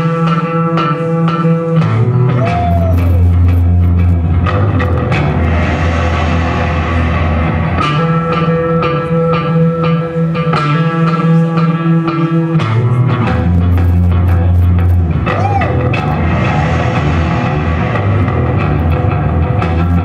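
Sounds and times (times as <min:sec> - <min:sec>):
electric bass guitar: 0:00.0 - 0:20.0.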